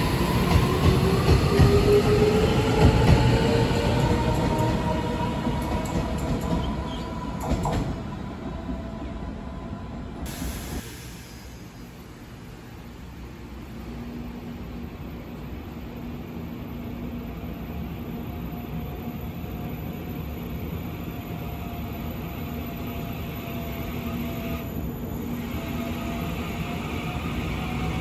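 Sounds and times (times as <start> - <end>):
electric train hum and running noise: 0.0 - 28.0.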